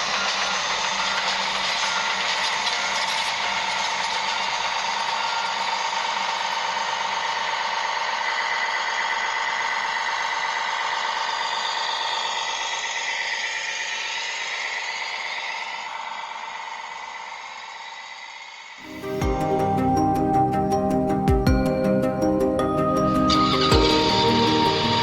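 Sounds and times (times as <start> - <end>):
small electric motor whining: 0.0 - 19.7, 22.9 - 25.0.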